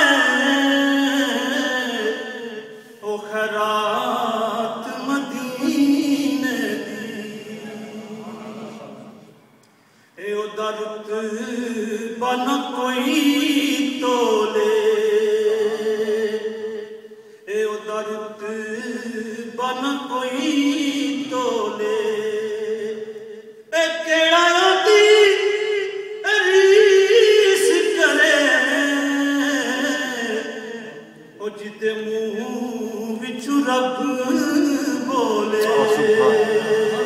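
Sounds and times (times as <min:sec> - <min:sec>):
man chanting into a microphone: 0:00.0 - 0:09.2, 0:10.2 - 0:37.0.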